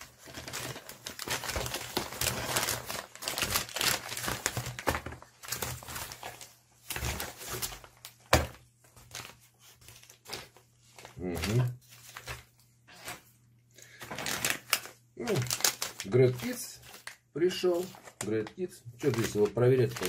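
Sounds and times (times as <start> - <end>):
plastic mailer crinkling: 0.0 - 20.0.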